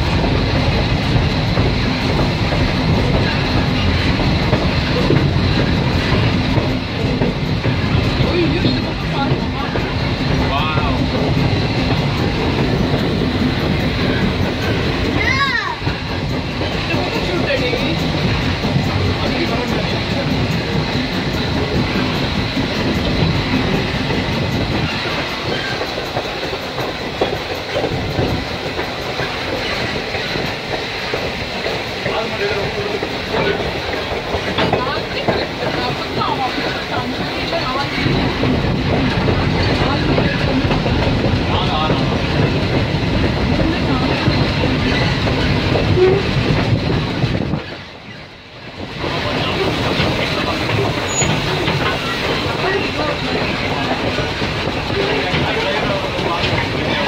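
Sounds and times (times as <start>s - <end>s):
train cars rumbling on rails: 0.0s - 57.0s
wheels clickety-clack: 0.0s - 57.0s.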